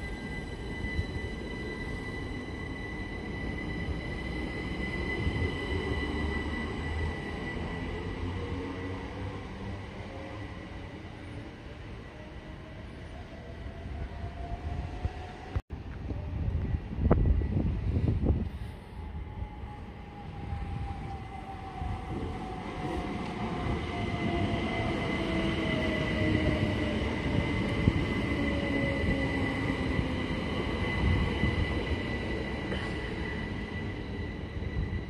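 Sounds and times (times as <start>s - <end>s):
steady high squeal: 0.0s - 15.4s, 16.7s - 35.0s.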